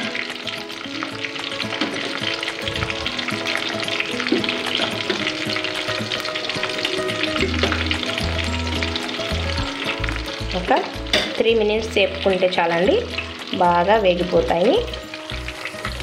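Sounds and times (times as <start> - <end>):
chicken deep-frying in hot oil: 0.0 - 16.0.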